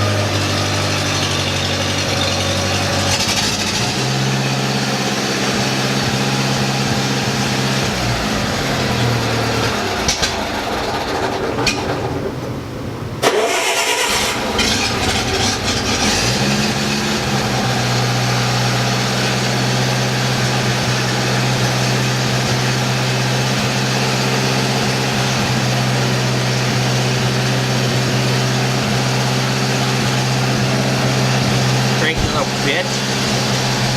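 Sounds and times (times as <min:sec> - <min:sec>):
gas engine running unevenly: 0:00.0 - 0:33.9.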